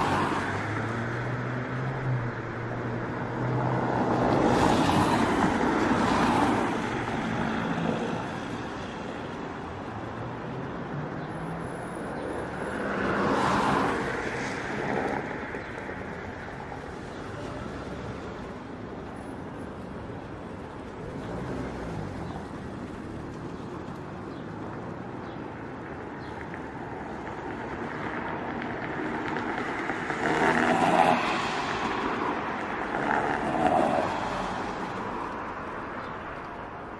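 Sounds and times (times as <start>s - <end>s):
traffic engine rumble: 0.0s - 36.9s
vehicles passing: 0.0s - 36.9s.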